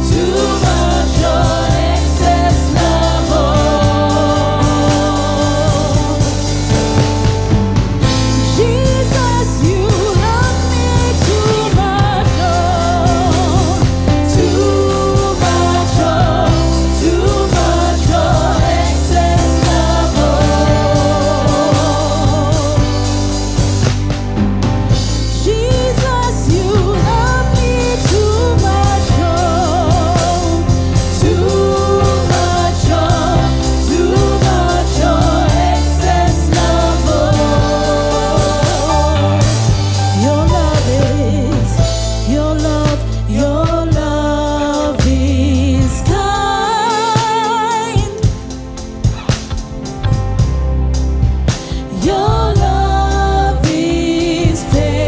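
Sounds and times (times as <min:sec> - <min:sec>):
person singing: 0:00.0 - 0:07.1, 0:08.2 - 0:23.5, 0:25.4 - 0:49.3
band with bass and drums: 0:00.0 - 0:55.0.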